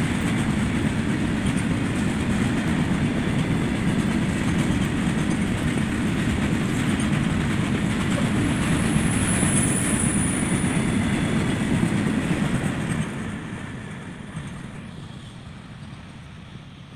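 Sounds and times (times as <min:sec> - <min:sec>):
freight train wheels on rails: 0:00.0 - 0:16.9.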